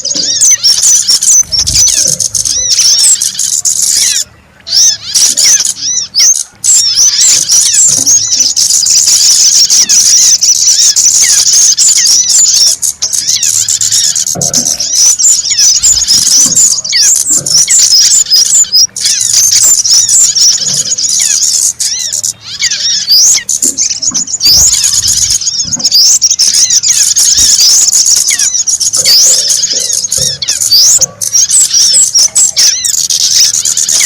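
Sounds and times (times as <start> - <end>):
small songbirds chirping: 0.0 - 34.0.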